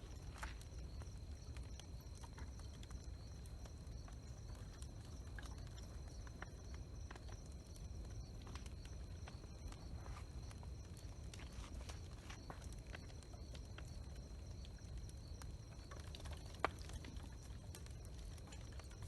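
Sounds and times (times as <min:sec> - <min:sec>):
bonfire crackling and popping: 0:00.0 - 0:19.0
fire low rumble: 0:00.0 - 0:19.0.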